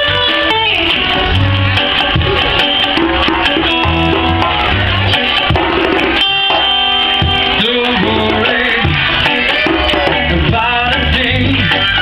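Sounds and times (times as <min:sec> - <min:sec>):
guitars: 0:00.0 - 0:12.0
hand drum: 0:00.0 - 0:12.0
reggae band playing: 0:00.0 - 0:12.0.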